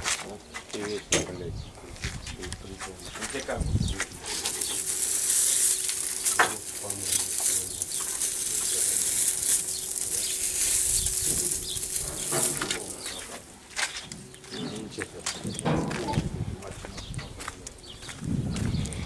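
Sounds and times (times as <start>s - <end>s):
dry straw rustling and crackling: 2.0s - 19.0s.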